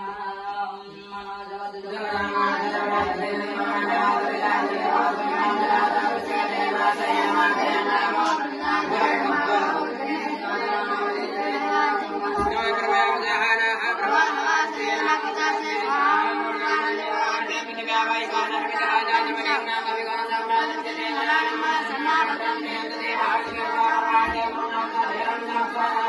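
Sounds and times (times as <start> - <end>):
group chanting: 0.0 - 26.0.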